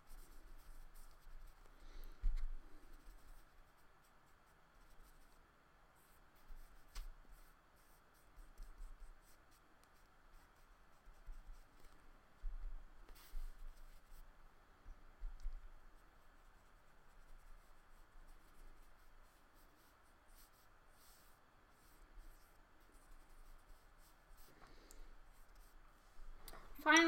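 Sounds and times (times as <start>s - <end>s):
paintbrush brushing on paper: 0.0s - 27.0s.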